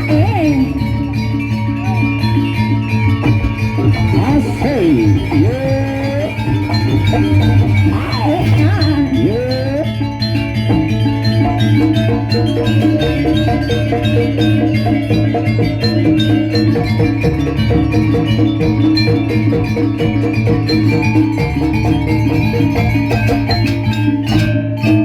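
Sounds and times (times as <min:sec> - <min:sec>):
drumming: 0:00.0 - 0:25.0
metallic mallet percussion: 0:00.0 - 0:25.0.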